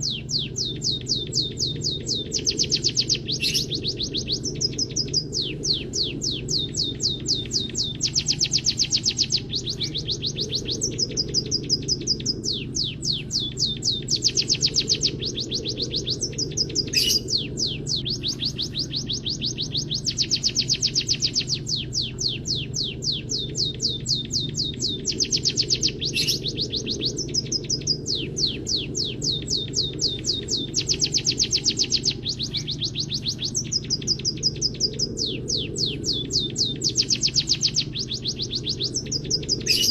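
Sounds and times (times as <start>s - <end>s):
bird singing fast trills: 0.0s - 39.9s
low hum: 0.0s - 39.9s.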